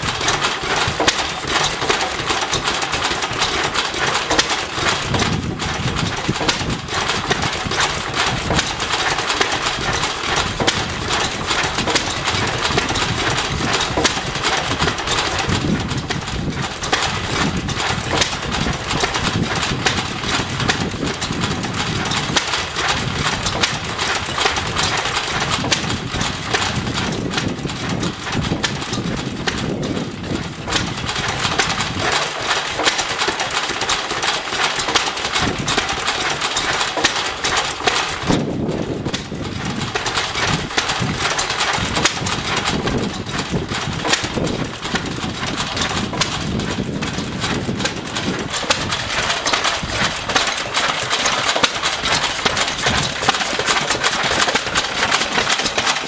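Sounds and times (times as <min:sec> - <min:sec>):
stationary engines clattering: 0:00.0 - 0:56.0.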